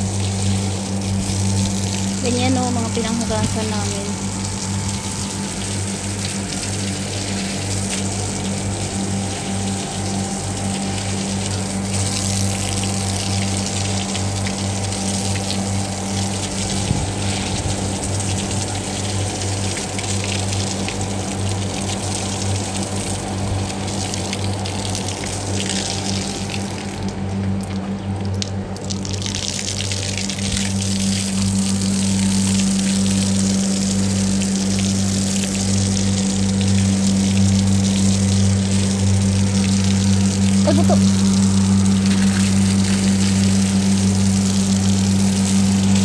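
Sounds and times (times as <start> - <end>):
hose spraying water on concrete: 0.0 - 46.0
low electric motor hum: 0.0 - 46.0.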